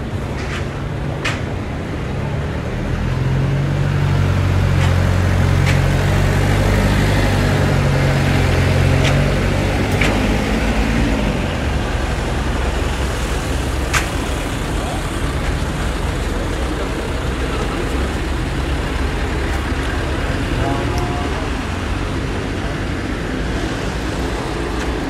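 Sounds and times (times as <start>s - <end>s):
street traffic noise: 0.0s - 25.0s
vehicle engine humming: 0.0s - 25.0s.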